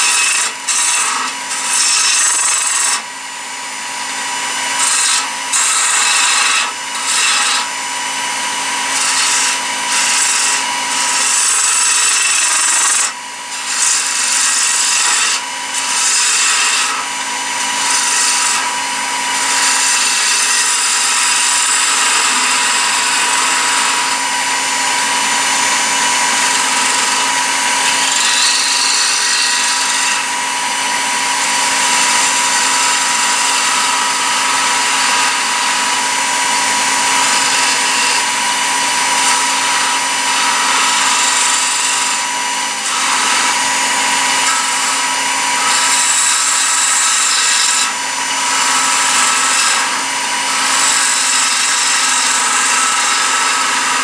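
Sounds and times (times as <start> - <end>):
wood lathe humming: 0.0 - 54.0.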